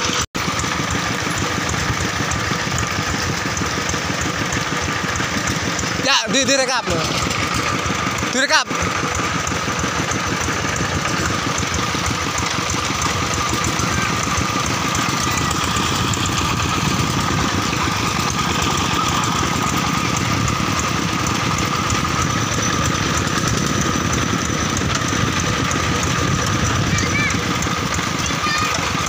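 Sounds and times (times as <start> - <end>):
diesel engine chugging: 0.0 - 29.0.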